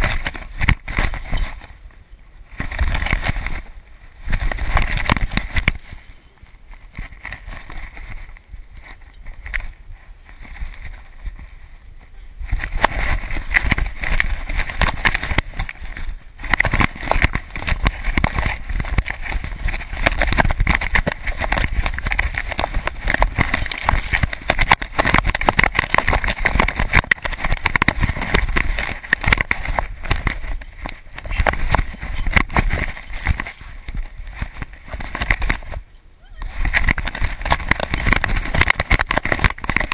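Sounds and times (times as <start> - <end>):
rubbing and knocking on camera: 0.0 - 1.8, 2.5 - 6.1, 6.7 - 39.9
crunching of snow: 0.0 - 39.9.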